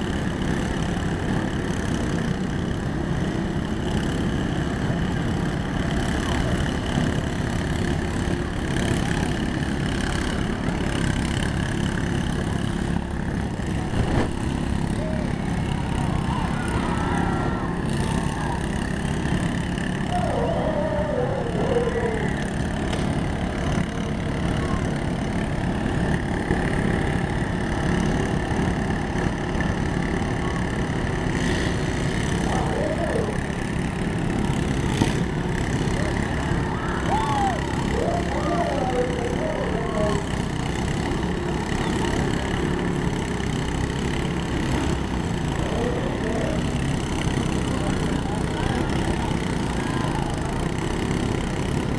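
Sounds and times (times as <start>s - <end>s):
lawn mower engines droning: 0.0s - 51.9s.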